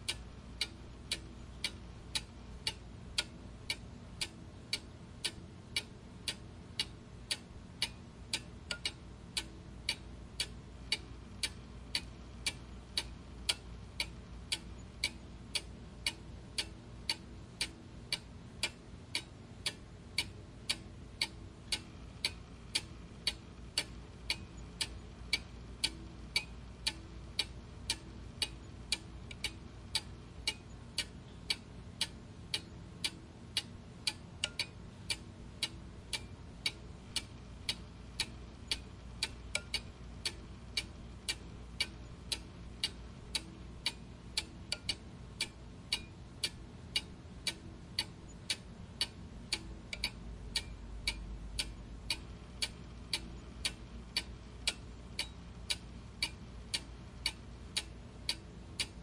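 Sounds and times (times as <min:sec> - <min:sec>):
clock ticking: 0:00.0 - 0:59.0
faint low hum: 0:00.0 - 0:59.0.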